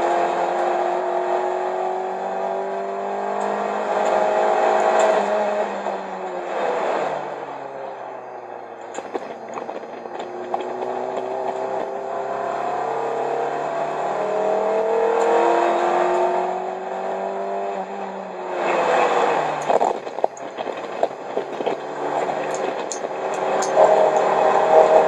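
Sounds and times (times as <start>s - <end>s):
car engine accelerating: 0.0s - 25.0s
road noise: 0.0s - 25.0s.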